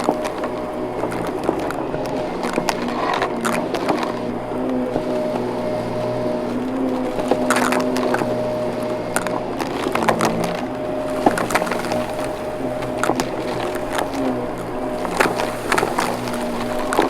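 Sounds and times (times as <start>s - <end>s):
sharp clicks and crackles: 0.0s - 17.0s
vacuum cleaner running: 0.0s - 17.0s.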